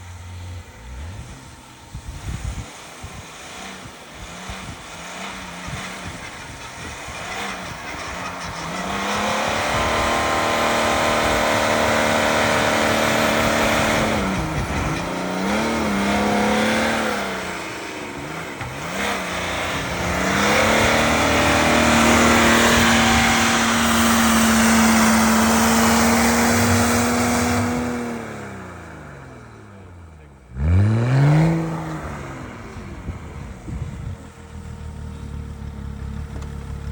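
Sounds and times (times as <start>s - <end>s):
off-road vehicle engine revving: 0.0s - 36.9s.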